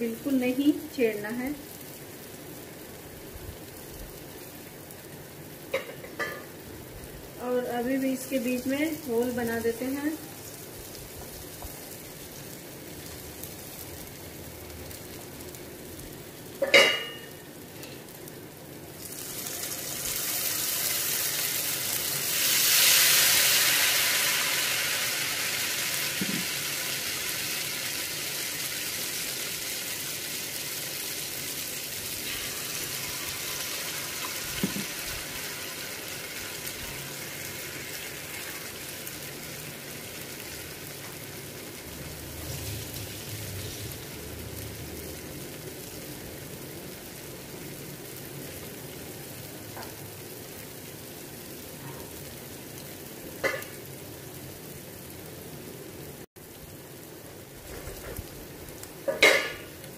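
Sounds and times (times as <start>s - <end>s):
batter sizzling in hot oil: 0.0s - 59.9s.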